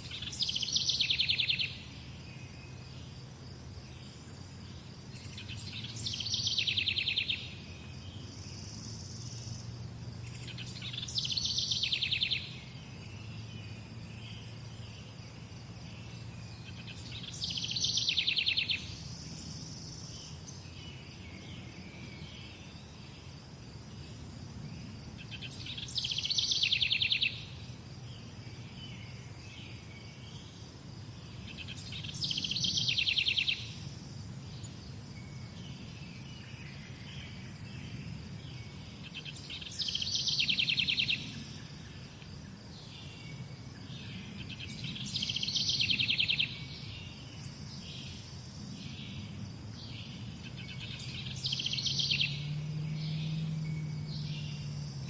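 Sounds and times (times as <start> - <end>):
songbird trill: 0.0 - 55.0.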